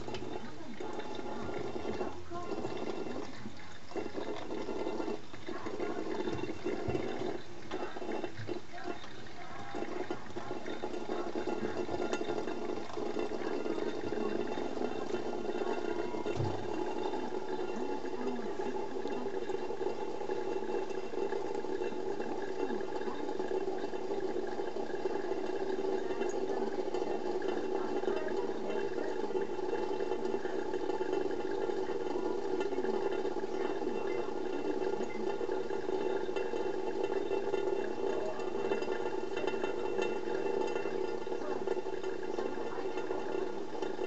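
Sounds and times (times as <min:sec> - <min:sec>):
tap water running into sink: 0:00.0 - 0:44.0.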